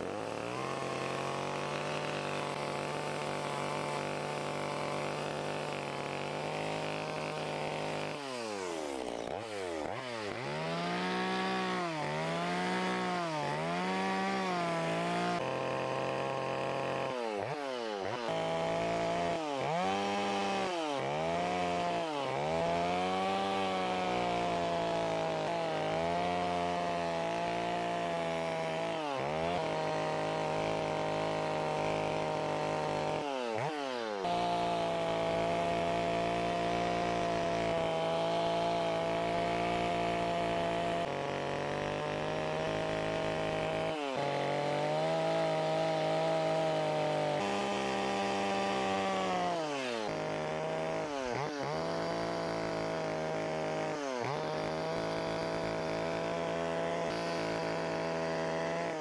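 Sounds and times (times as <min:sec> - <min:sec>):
chainsaw carving wood: 0:00.0 - 0:59.0.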